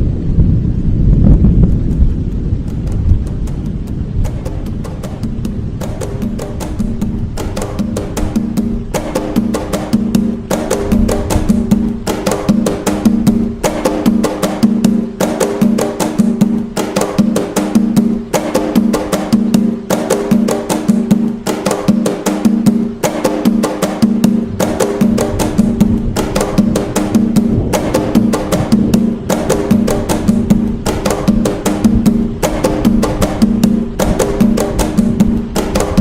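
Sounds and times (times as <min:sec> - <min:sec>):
hand drums playing fast rhythm: 0:02.7 - 0:36.0.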